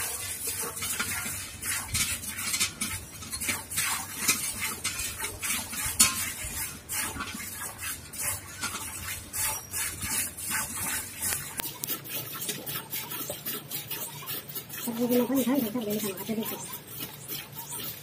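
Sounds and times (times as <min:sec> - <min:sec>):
milk squirting into steel pail: 0:00.0 - 0:18.0.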